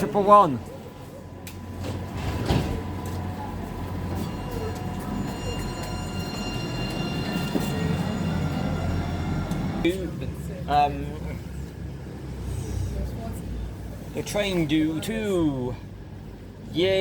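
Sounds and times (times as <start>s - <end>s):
train diesel engine drone: 0.0s - 15.1s.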